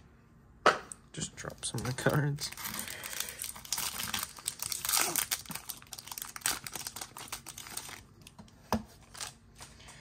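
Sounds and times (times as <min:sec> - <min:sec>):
wrapper crinkling: 0:01.4 - 0:09.9.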